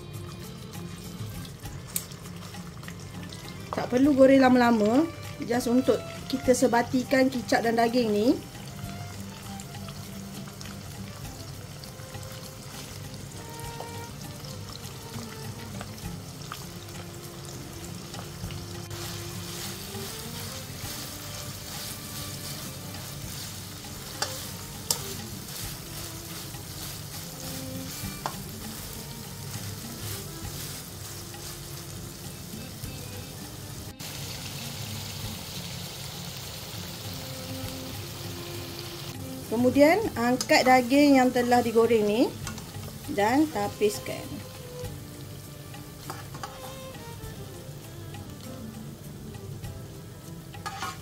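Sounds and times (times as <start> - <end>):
beef sizzling in a wok: 0.0 - 51.0.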